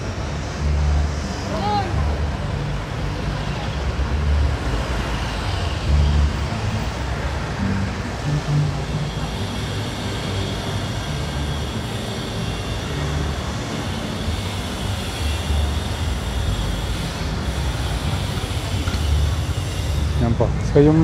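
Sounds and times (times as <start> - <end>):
city background sound: 0.0 - 21.0
street traffic rumble: 0.0 - 21.0.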